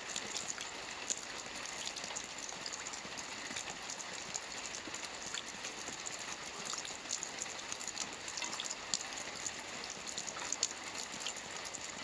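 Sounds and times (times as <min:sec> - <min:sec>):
rain on a roof: 0:00.0 - 0:12.0.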